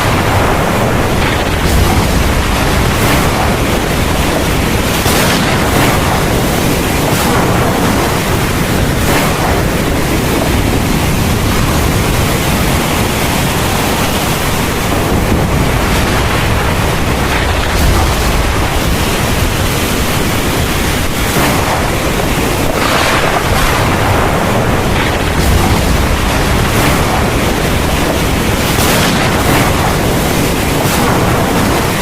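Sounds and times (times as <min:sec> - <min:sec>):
deep thunder rumble: 0:00.0 - 0:32.0
heavy rain pouring: 0:00.0 - 0:32.0.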